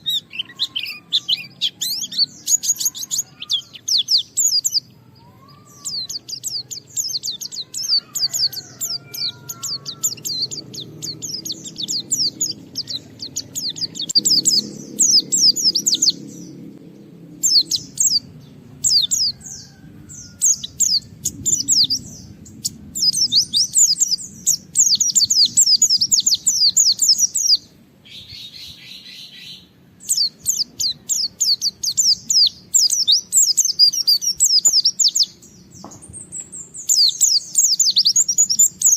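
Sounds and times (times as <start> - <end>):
bird singing rapid high chirps: 0.0 - 38.9
low buzzy bird call: 0.0 - 38.9.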